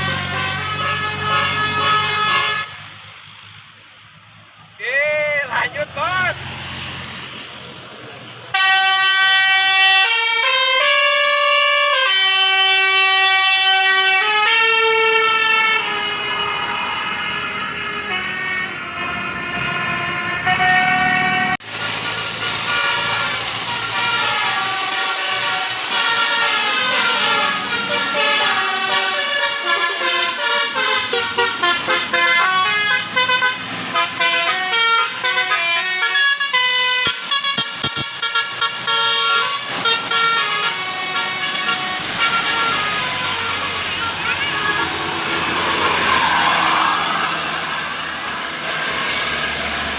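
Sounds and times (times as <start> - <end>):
musical air horn playing a tune: 0.0 - 2.8, 8.6 - 49.9.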